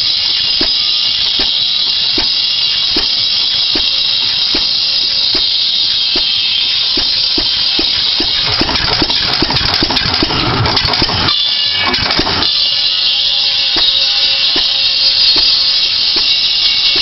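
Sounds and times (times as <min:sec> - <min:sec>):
saw blade cutting log: 0:00.0 - 0:12.8, 0:13.6 - 0:17.0
engine steady knocking beat: 0:00.0 - 0:17.0.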